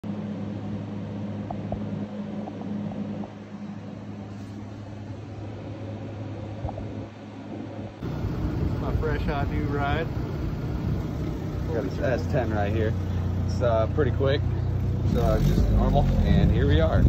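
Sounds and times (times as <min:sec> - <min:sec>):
low mechanical hum: 0:00.0 - 0:17.0
noisy background: 0:00.0 - 0:17.0.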